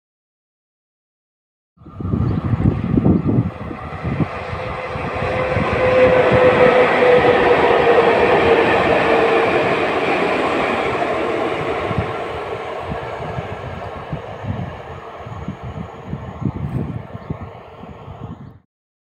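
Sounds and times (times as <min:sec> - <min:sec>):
locomotive whine: 0:01.8 - 0:18.6
wheels rumbling on rails: 0:01.8 - 0:18.6.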